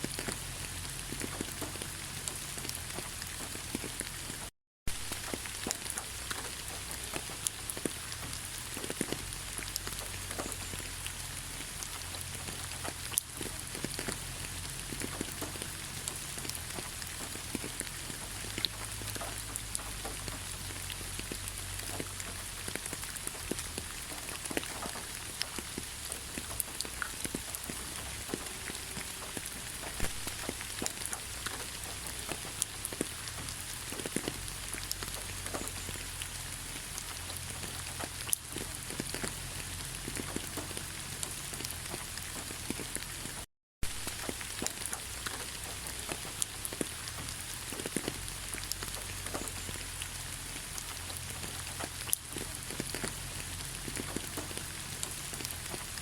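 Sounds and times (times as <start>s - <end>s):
rain falling in forest: 0.0s - 56.0s
raindrops hitting close by: 0.0s - 56.0s.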